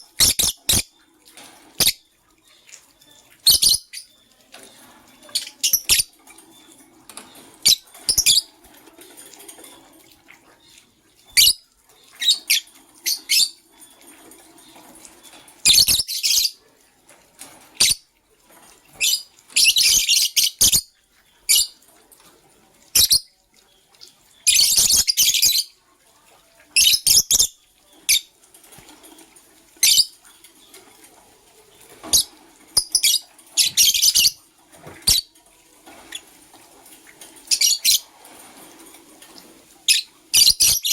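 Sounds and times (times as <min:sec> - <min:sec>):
lovebirds chirping and chattering: 0:00.0 - 0:40.9.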